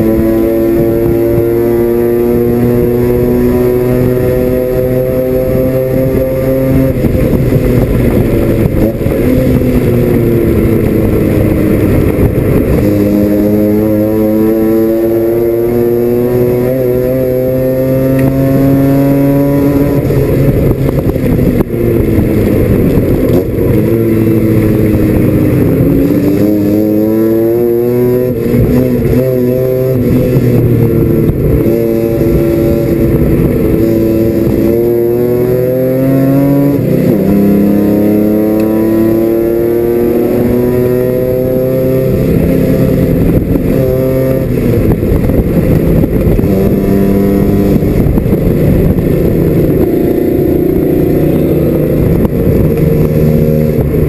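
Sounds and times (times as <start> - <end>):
racing engine revving: 0.0 - 54.0
road and wind noise: 0.0 - 54.0.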